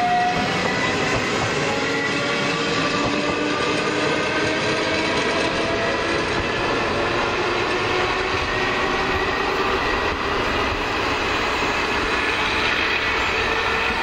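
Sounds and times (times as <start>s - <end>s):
train wheels rumbling on rail: 0.0s - 14.0s
train whining tones: 0.0s - 14.0s.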